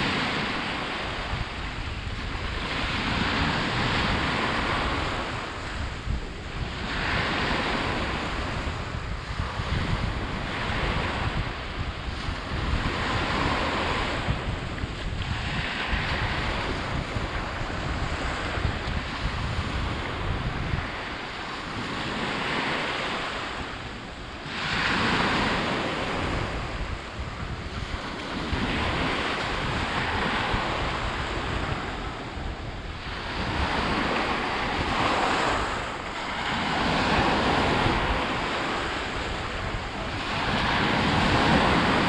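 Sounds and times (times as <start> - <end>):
sea waves washing on shore: 0.0 - 42.0
wind rumbling on microphone: 0.0 - 42.0.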